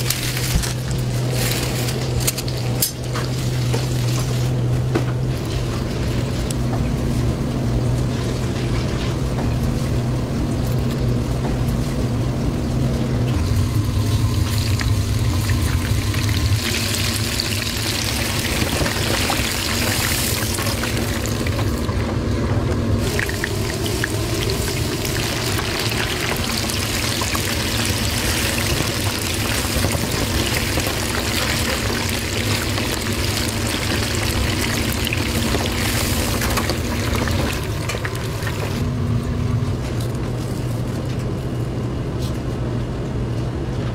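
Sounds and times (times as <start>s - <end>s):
oil sizzling in a deep fryer: 0.0s - 38.9s
constant low hum: 0.0s - 43.9s.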